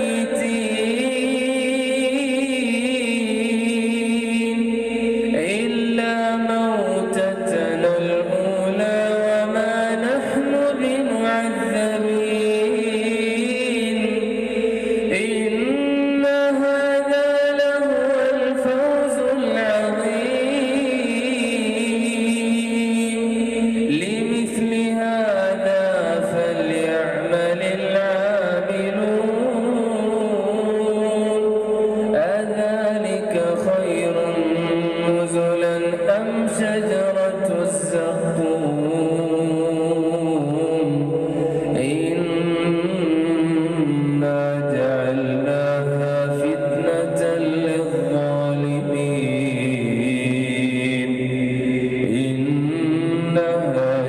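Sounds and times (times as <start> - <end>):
man chanting melodically: 0.0 - 54.0.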